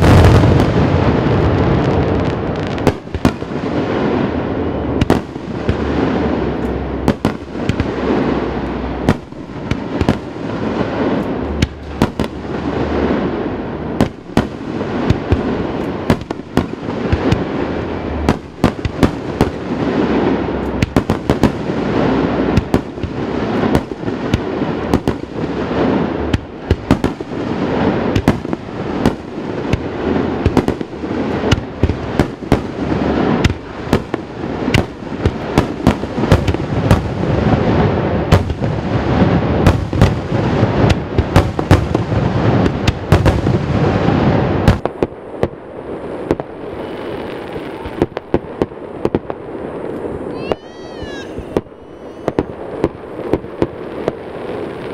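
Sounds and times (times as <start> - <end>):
fireworks cracks and bangs: 0.0 - 54.9
fireworks rumble: 0.0 - 54.9.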